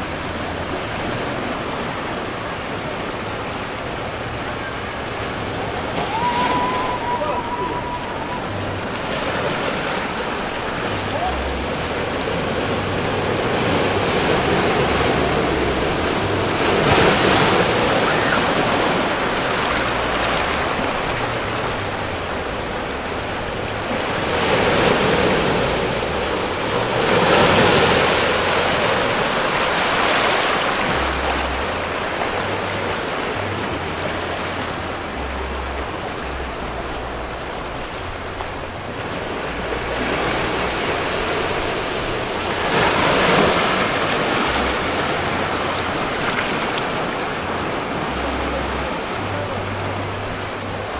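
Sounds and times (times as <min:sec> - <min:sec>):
small waves breaking over rocks: 0:00.0 - 0:49.8.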